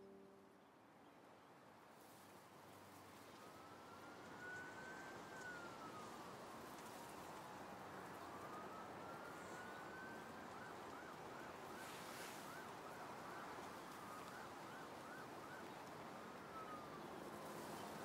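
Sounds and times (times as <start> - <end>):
emergency vehicle siren: 0.0 - 0.4, 3.2 - 18.0.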